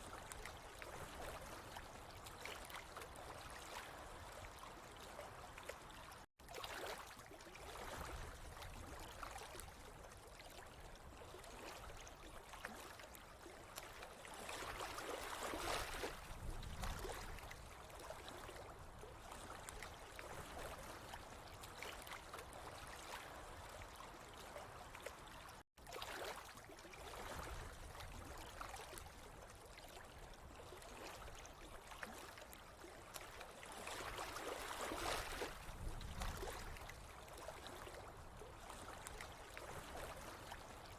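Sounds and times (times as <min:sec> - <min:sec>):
water trickling and gurgling: 0:00.0 - 0:40.9.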